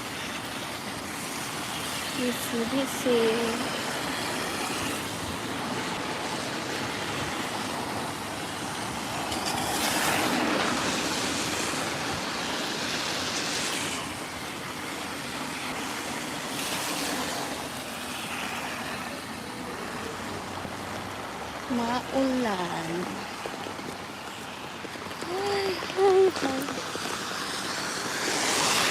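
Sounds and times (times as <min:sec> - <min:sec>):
vehicles swishing past: 0:00.0 - 0:28.9
wet tyres and rain hiss: 0:00.0 - 0:28.9.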